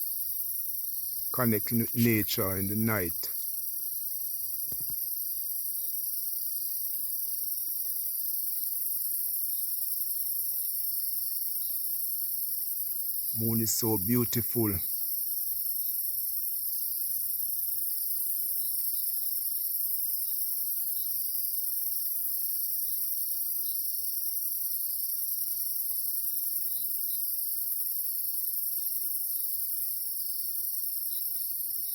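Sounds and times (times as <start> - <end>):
night insects shrilling: 0.0 - 31.9.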